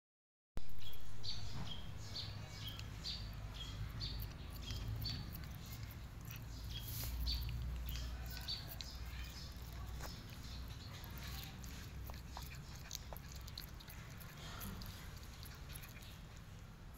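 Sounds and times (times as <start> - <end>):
cat chewing: 0.6 - 16.9.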